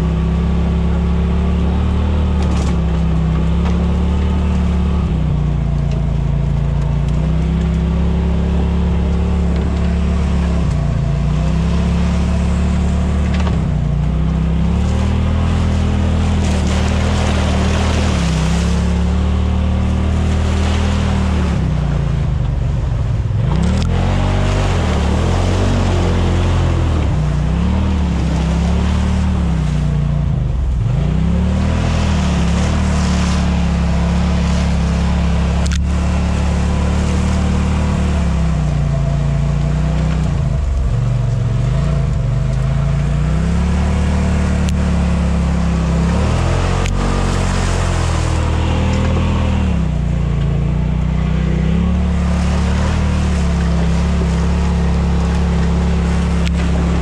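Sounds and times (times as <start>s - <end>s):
buggy engine revving in mud: 0.0s - 57.0s.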